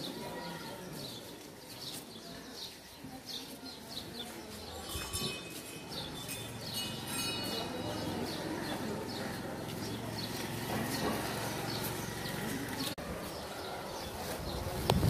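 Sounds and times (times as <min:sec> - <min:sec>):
small birds chirping: 0:00.0 - 0:05.3, 0:05.9 - 0:15.0.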